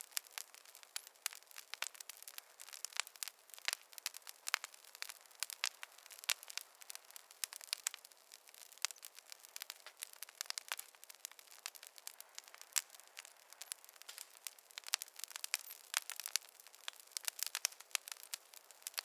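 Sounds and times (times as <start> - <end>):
campfire crackling and popping: 0.0 - 19.0
faint hiss: 0.0 - 19.0.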